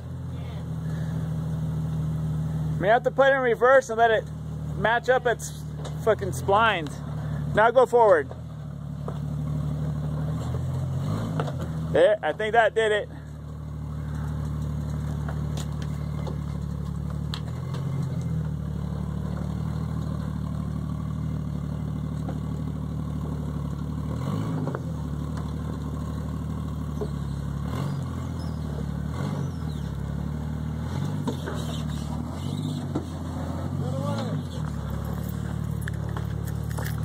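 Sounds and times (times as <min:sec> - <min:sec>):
engine running at low revs: 0:00.0 - 0:37.0.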